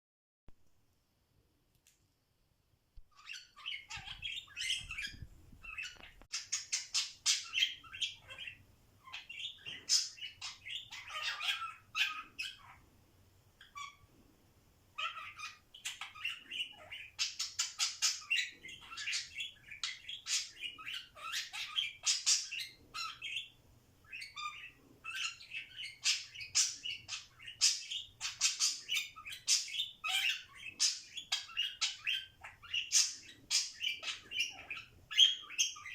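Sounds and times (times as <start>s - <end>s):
budgerigar warbling and chattering: 3.1s - 12.8s, 13.6s - 14.0s, 15.0s - 35.9s.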